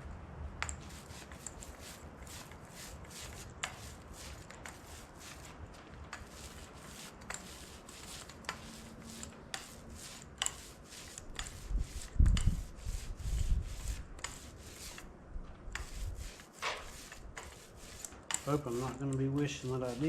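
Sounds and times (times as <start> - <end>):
paint roller rubbing on metal: 0.7 - 20.0.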